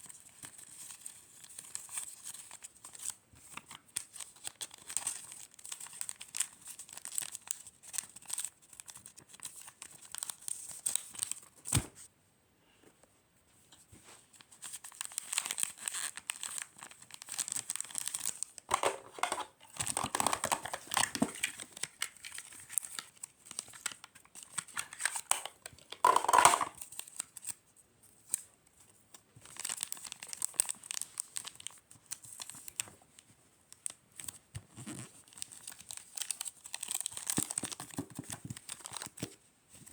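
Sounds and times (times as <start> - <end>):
wrapping material crinkling: 0.4 - 11.5, 14.0 - 27.6, 29.4 - 39.9.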